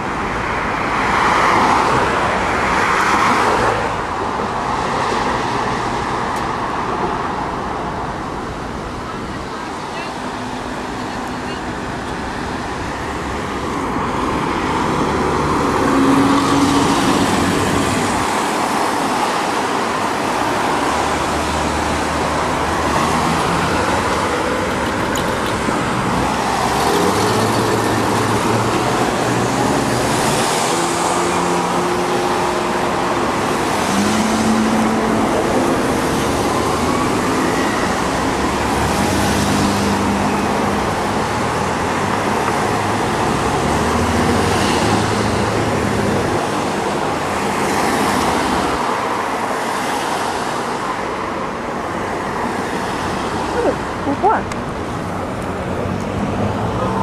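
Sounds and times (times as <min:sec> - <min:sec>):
cars passing by: 0:00.0 - 0:57.0
traffic noise: 0:00.0 - 0:57.0.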